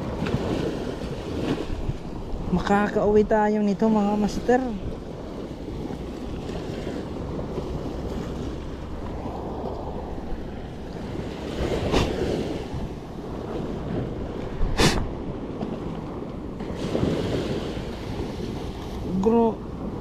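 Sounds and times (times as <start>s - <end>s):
surf washing up beach: 0.0s - 20.0s
wind buffeting microphone: 0.0s - 20.0s.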